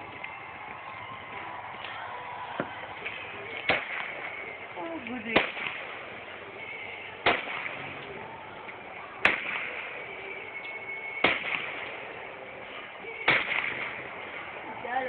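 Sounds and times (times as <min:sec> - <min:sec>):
fireworks bangs: 0:01.4 - 0:15.0.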